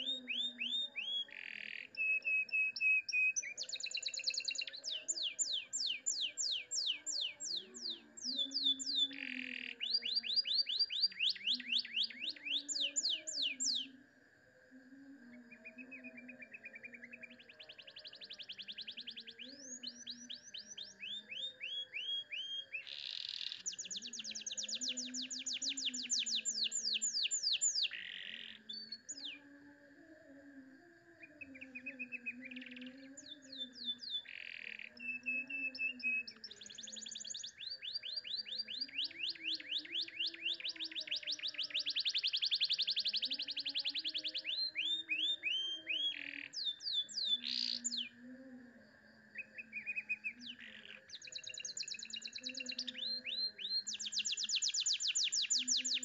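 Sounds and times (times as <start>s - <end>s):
canary singing trills: 0.0s - 14.0s, 15.6s - 29.4s, 31.4s - 48.2s, 49.4s - 56.0s.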